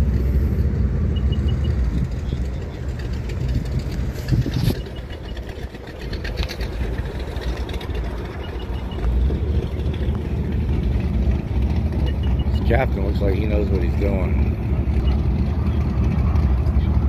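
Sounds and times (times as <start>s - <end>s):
motorboat engines idling: 0.0s - 17.0s.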